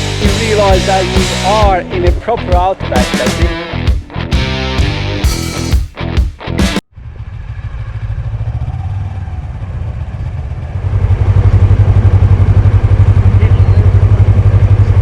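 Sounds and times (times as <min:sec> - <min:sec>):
motorcycle engine running: 0:00.0 - 0:04.5, 0:06.9 - 0:15.0.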